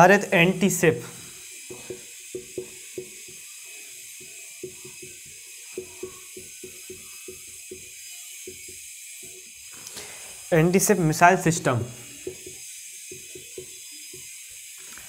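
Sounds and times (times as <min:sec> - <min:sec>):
marker writing on whiteboard: 0:01.5 - 0:09.6, 0:10.6 - 0:14.7.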